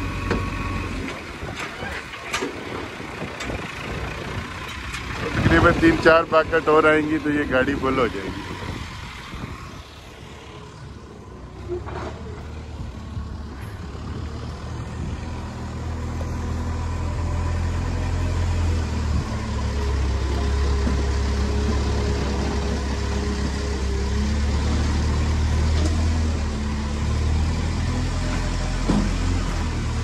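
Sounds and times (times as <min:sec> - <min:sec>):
diesel machinery engine drone: 0:00.0 - 0:30.0.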